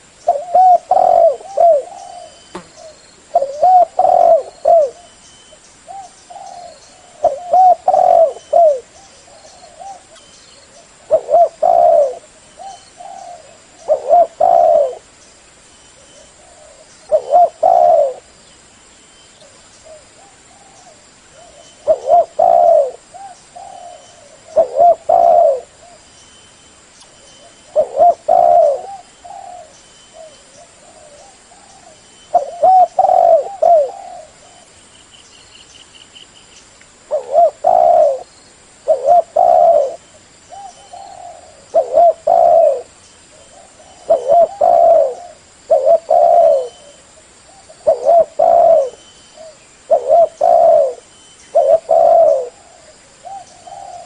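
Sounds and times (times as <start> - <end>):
dove cooing: 0.0 - 5.2, 5.9 - 15.1, 16.0 - 18.4, 19.4 - 26.1, 27.2 - 34.8, 37.1 - 54.0.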